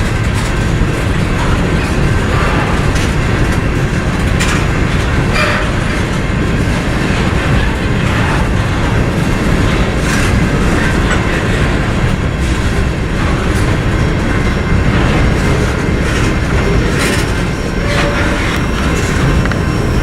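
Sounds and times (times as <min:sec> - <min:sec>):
freight train wheels rumbling: 0:00.0 - 0:20.0
wheels clacking on rail joints: 0:00.0 - 0:20.0.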